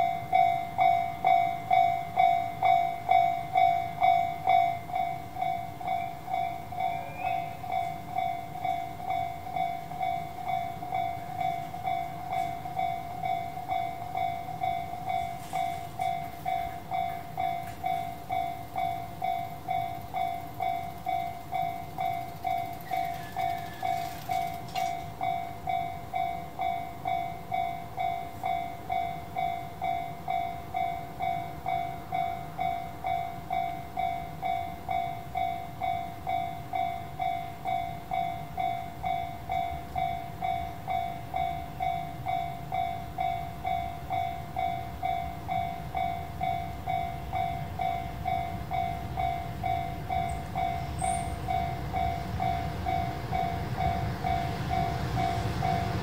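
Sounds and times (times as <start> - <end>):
railroad crossing bell dinging: 0.0 - 56.0.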